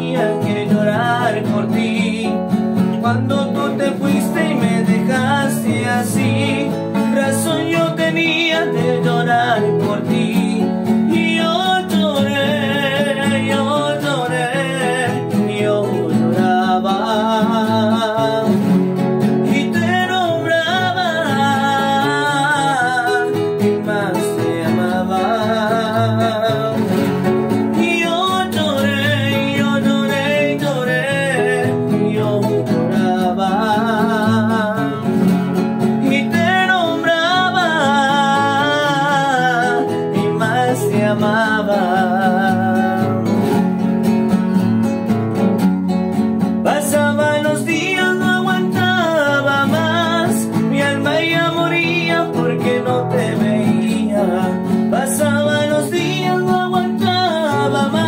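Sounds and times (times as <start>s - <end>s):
nylon-string guitars playing: 0.0s - 58.0s.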